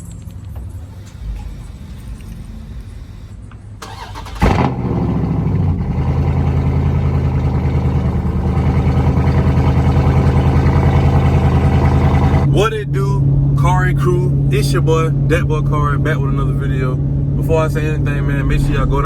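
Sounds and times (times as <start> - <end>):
car engine starting and idling: 0.1 - 19.0.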